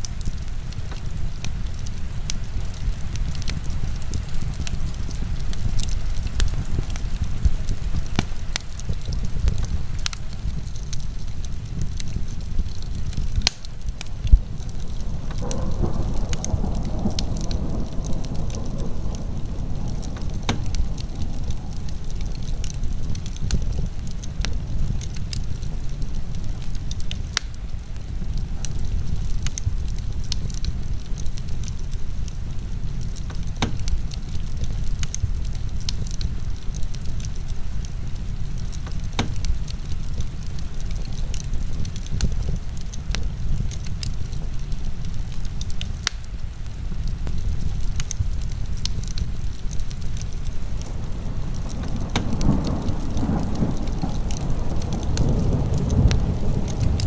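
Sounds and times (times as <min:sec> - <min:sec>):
heavy rain: 0:00.0 - 0:57.0
wood fire crackling: 0:00.0 - 0:57.0.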